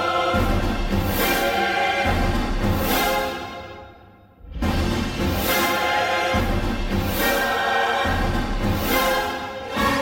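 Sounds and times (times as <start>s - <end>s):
orchestral music: 0.0s - 10.0s.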